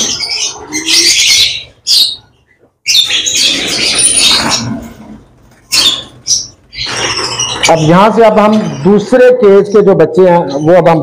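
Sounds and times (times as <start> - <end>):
birds shrill chattering: 0.0 - 11.0.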